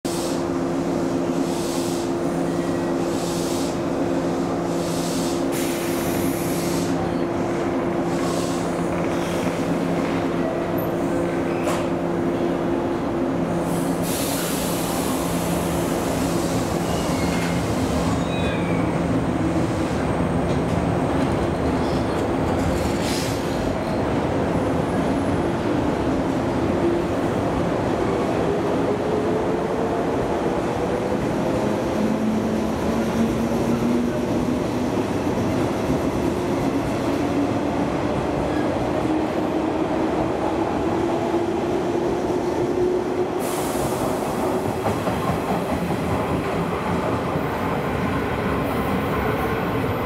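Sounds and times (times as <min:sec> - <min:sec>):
electric train rolling past: 0:06.0 - 0:50.0.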